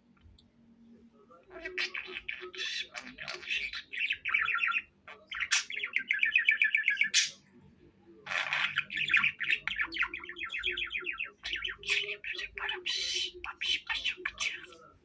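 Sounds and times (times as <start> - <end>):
budgerigar warbling: 1.6 - 7.4, 8.3 - 14.7.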